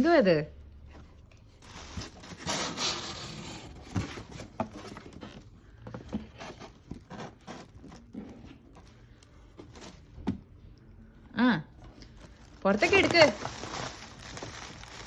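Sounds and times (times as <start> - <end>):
packaging rustling and crinkling: 0.8 - 10.2, 11.9 - 15.0.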